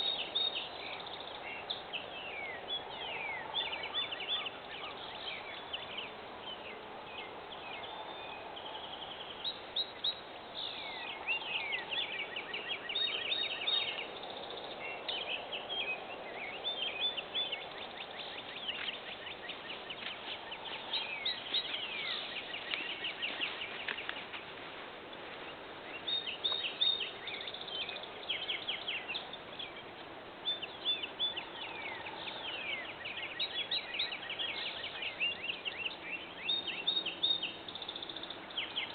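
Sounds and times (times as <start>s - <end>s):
background hiss: 0.0s - 38.9s
birds chirping: 0.0s - 38.9s.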